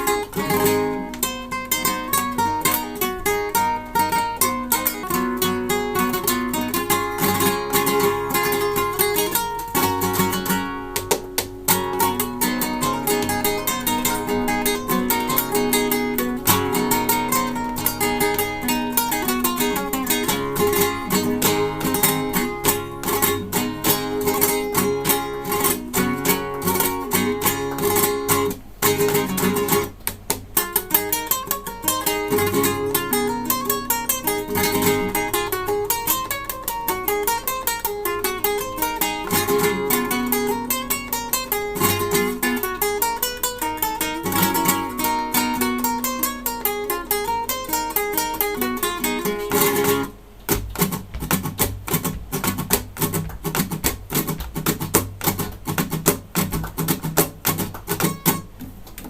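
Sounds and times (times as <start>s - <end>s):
percussive guitar strokes: 0.0s - 58.9s
acoustic guitar plucking: 0.0s - 59.0s.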